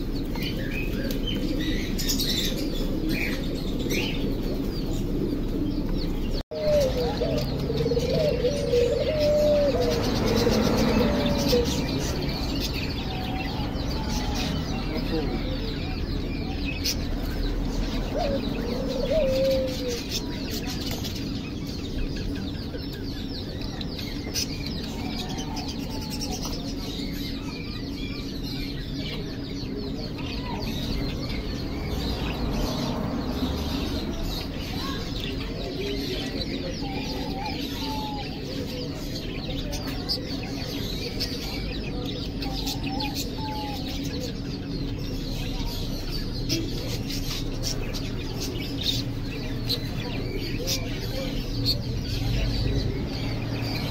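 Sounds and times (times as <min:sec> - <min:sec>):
doves cooing: 0:00.0 - 0:44.7
small birds chirping: 0:00.0 - 0:53.9.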